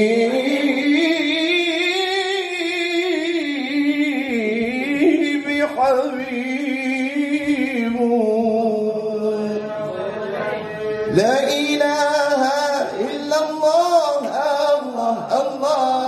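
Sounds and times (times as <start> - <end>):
man singing into microphone: 0.0 - 10.2, 11.0 - 16.0.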